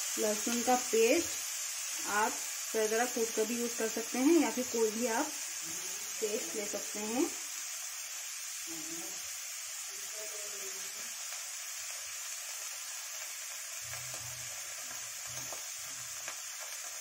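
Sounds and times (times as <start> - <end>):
onions and spices sizzling in oil: 0.0 - 17.0.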